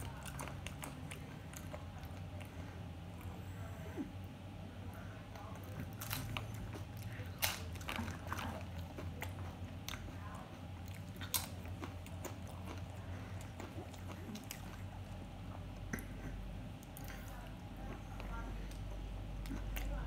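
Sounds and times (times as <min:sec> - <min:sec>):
chewing and crunching chips: 0:00.0 - 0:03.4, 0:05.2 - 0:20.0.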